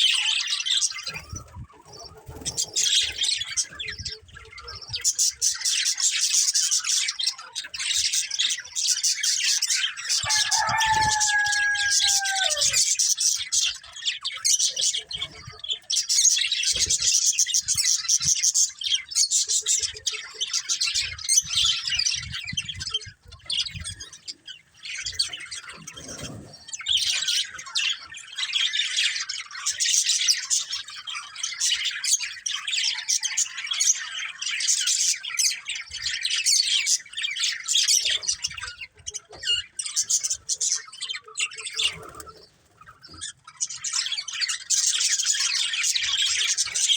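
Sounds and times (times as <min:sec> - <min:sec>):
budgerigars chirping: 0:00.0 - 0:46.9.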